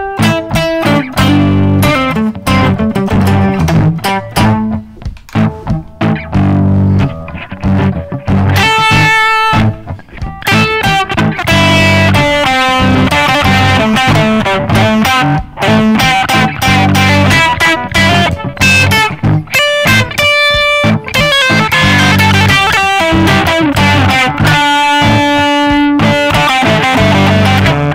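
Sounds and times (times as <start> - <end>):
distorted electric guitar lead: 0.0 - 27.9
looped guitar part: 0.0 - 27.9.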